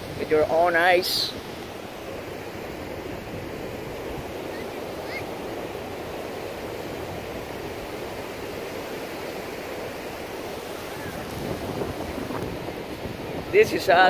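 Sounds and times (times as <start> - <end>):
ocean waves breaking on beach: 0.0 - 14.0.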